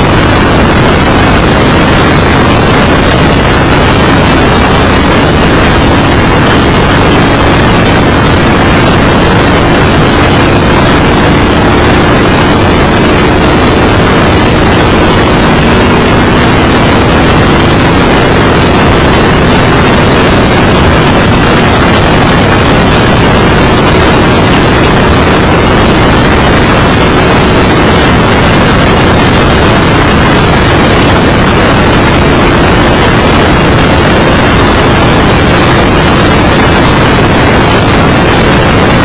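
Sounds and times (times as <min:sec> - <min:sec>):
race car engine: 0:00.0 - 0:39.0.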